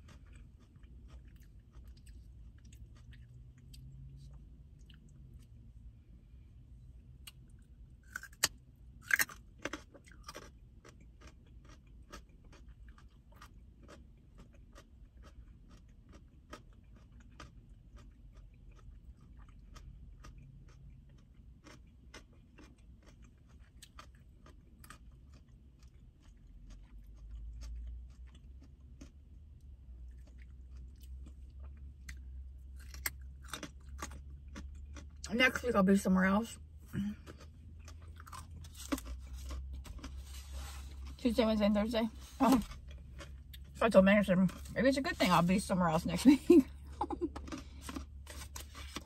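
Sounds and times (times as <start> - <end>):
crunchy chewing of carrots: 0.0 - 5.9, 7.0 - 45.7, 46.4 - 49.0.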